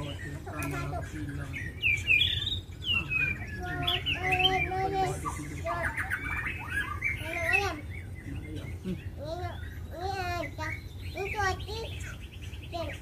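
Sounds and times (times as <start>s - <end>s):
birds singing whistled notes: 0.0s - 13.0s
steady low hum: 0.0s - 13.0s.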